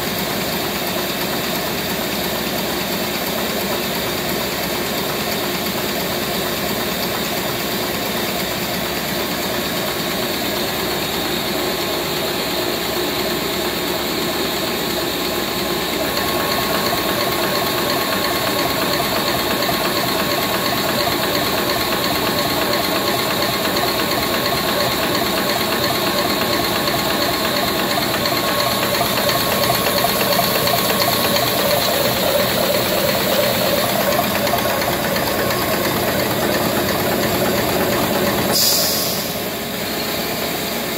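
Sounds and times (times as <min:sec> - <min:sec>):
homogenizer mechanical clatter: 0:00.0 - 0:40.7.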